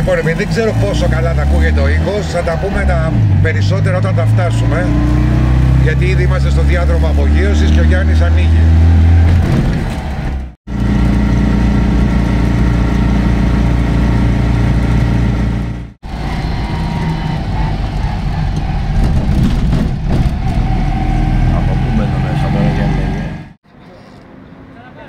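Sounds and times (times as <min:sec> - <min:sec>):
car engine running: 0:00.0 - 0:23.6.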